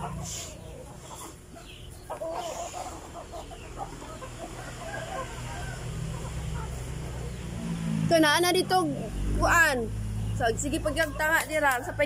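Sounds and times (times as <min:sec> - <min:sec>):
chickens clucking: 0:00.0 - 0:08.0, 0:08.7 - 0:12.0.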